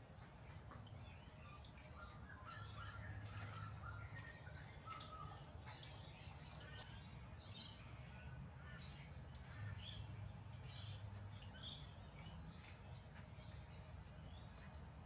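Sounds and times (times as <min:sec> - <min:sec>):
faint birds chirping: 0:00.0 - 0:15.0
low steady hum: 0:00.0 - 0:15.0.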